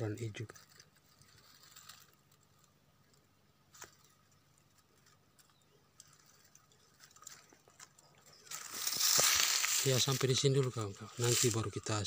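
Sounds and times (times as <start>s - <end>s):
dry twigs and leaves crackling: 0.0s - 12.0s.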